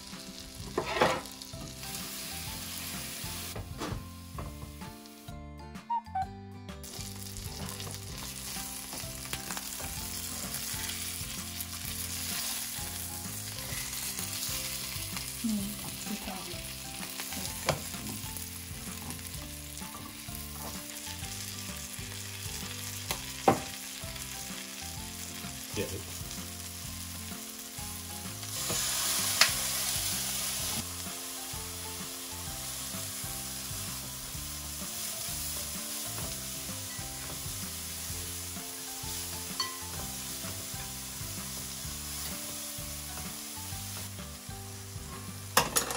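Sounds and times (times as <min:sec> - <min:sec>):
fish sizzling in a frying pan: 0:00.0 - 0:03.6, 0:06.8 - 0:45.9.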